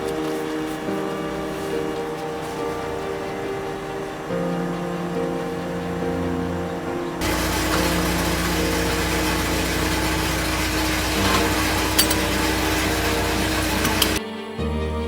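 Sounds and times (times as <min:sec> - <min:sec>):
concrete pump engine humming: 0:00.0 - 0:14.2
music: 0:00.0 - 0:15.0.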